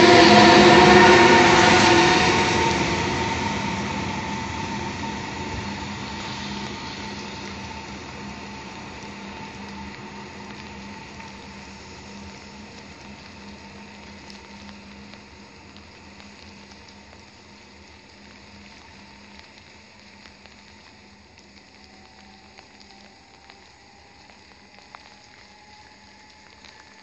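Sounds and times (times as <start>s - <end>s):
electric train hum and whine: 0.0s - 27.0s
rain on wet ground: 0.0s - 27.0s.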